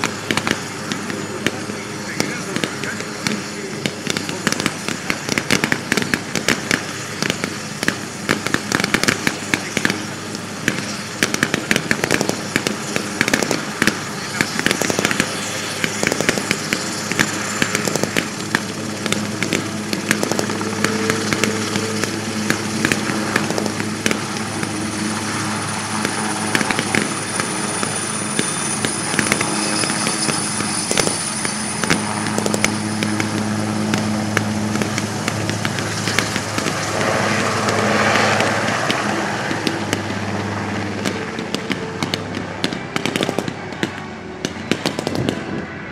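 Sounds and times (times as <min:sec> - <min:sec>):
sharp cracks: 0:00.0 - 0:45.8
helicopter rotor hum: 0:00.0 - 0:45.9
high turbine whine: 0:00.0 - 0:45.9.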